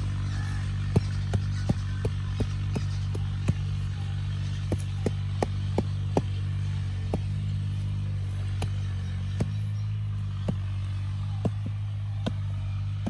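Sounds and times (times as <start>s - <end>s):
low engine-like drone: 0.0s - 13.0s
hoe chopping into dry soil: 0.1s - 13.0s.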